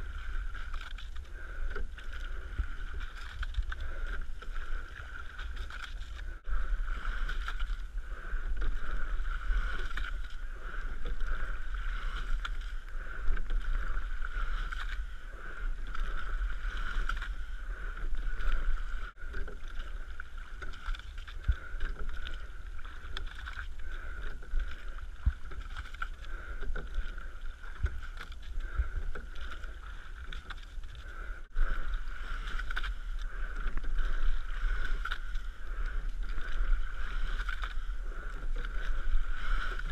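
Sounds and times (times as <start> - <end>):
oars working through water: 0.0 - 39.9
water rushing along hull: 0.0 - 39.9
wind rumble on microphone: 0.0 - 39.9.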